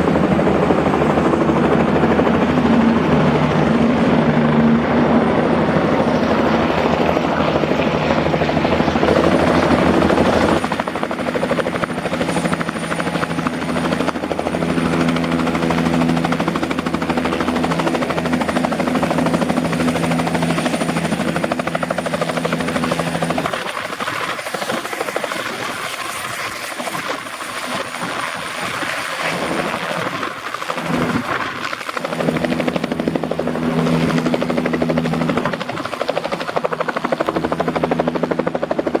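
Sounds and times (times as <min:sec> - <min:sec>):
helicopter engine and rotor whine: 0:00.0 - 0:39.0.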